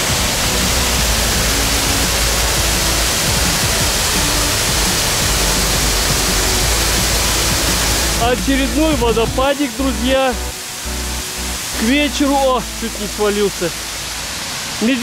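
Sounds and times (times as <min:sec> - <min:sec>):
faint music: 0:00.0 - 0:15.0
waterfall rushing: 0:00.0 - 0:15.0.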